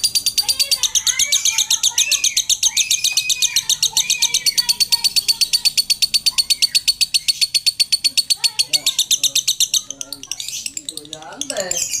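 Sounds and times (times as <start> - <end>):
lovebird chattering: 0.0 - 12.0.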